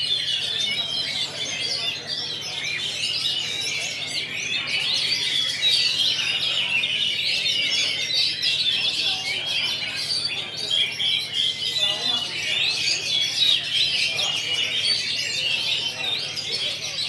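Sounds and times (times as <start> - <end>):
chorus of songbirds singing: 0.0 - 17.0.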